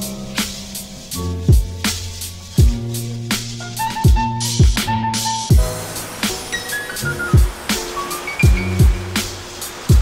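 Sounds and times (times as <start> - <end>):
snare or cymbal strokes: 0.0 - 10.0.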